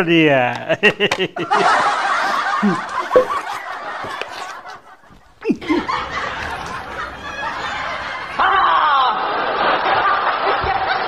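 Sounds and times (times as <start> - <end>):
snickering laughter: 0.7 - 11.0.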